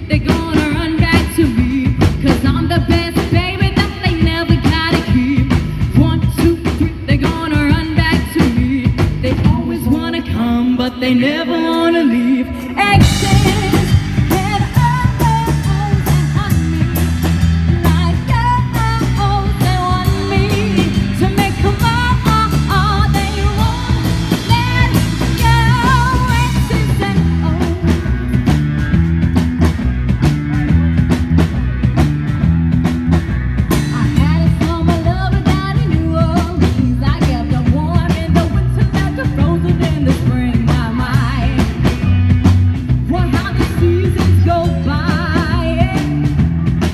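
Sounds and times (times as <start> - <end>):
woman singing: 0.0 - 28.3, 33.9 - 42.1, 43.0 - 46.4
live rock band playing: 0.0 - 46.9.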